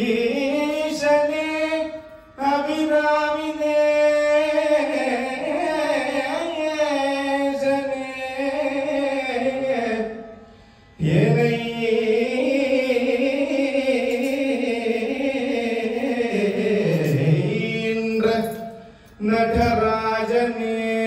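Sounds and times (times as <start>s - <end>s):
man singing devotional music: 0.0s - 21.0s.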